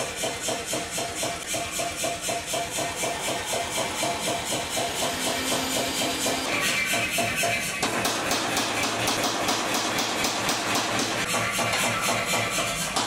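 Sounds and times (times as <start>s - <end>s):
air compressor chuffing: 0.0s - 13.0s.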